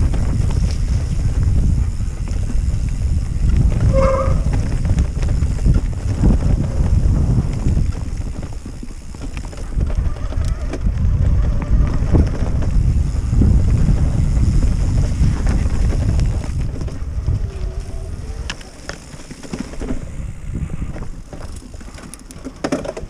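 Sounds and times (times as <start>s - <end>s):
bike rattling over trail: 0.0s - 23.0s
wind buffeting microphone: 0.0s - 23.0s.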